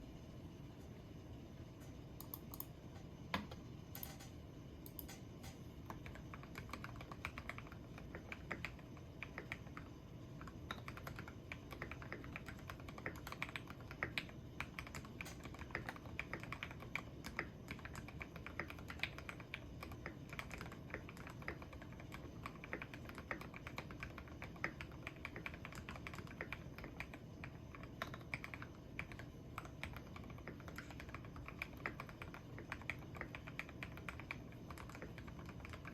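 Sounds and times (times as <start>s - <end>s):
typing on mechanical keyboard: 5.9s - 35.9s.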